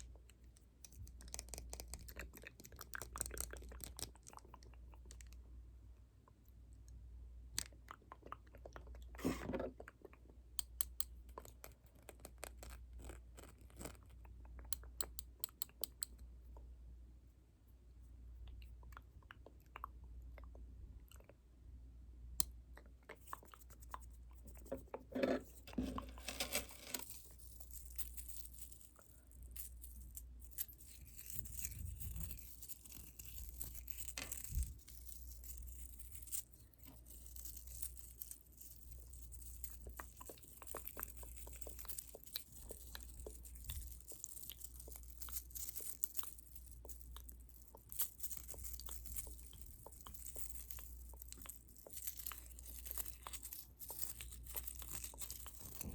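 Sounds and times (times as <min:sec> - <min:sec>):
crackling scratchy clicks and crinkles: 0:00.0 - 0:05.5, 0:06.2 - 0:16.7, 0:22.4 - 0:55.9.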